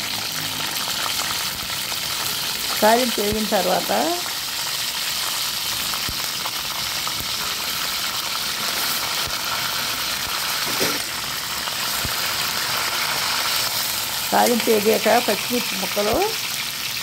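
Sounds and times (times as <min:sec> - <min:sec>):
hot oil sizzling: 0:00.0 - 0:17.0.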